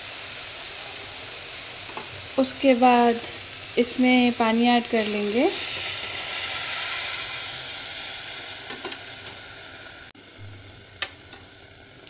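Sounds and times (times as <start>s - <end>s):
water hissing in a hot pan: 0.0s - 12.0s.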